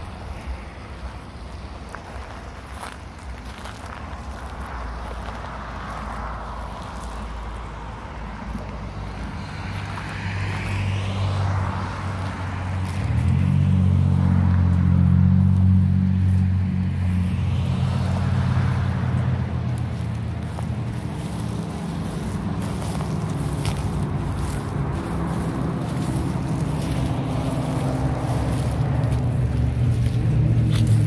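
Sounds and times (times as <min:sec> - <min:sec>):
vehicle engine hum: 0:00.0 - 0:31.0.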